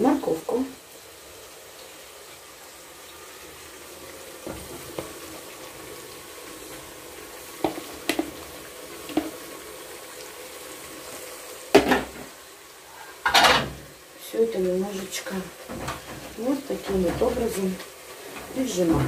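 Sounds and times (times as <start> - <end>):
oil sizzling in a pot: 0.0 - 19.0.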